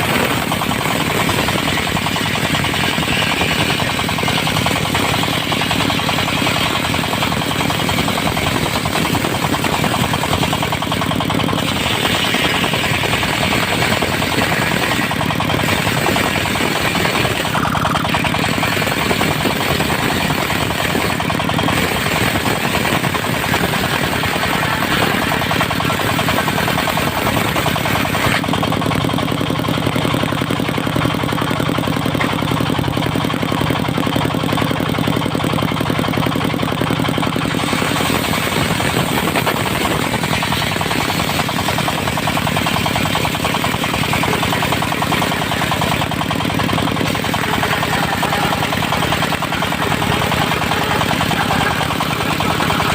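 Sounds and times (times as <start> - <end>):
sawmill diesel engine knocking: 0.0 - 52.9.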